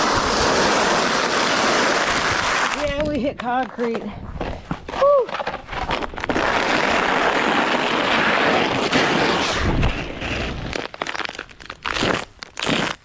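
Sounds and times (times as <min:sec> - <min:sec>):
ice crackling and crunching: 0:00.0 - 0:13.0
sled scraping over ice: 0:00.0 - 0:13.0.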